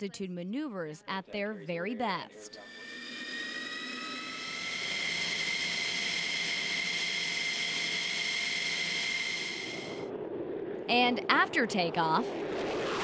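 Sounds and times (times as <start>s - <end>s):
jet engine whine: 1.1s - 13.0s.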